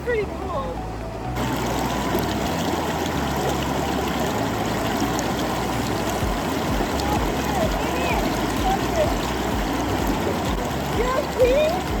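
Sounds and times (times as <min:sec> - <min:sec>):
water rushing from waterfall: 0:00.0 - 0:12.0.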